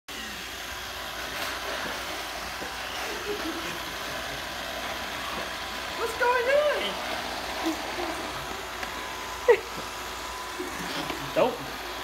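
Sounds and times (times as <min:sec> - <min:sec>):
robot vacuum running: 0:00.1 - 0:12.0.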